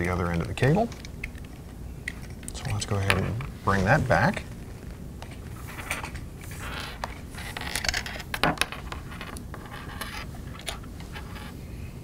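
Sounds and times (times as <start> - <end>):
cable rubbing and rustling: 0.3 - 11.6.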